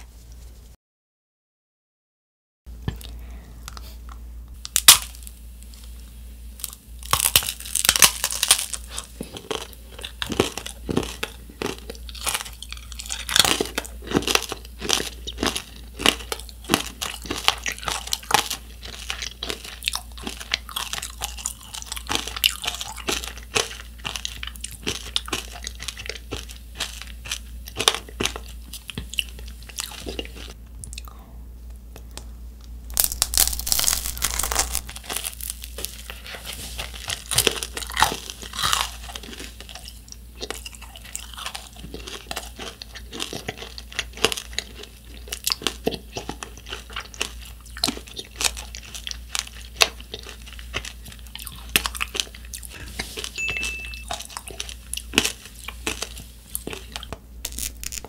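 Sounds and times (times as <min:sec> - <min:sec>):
hard candy shell crunching: 0:04.6 - 0:05.4, 0:06.6 - 0:31.1, 0:32.9 - 0:58.0.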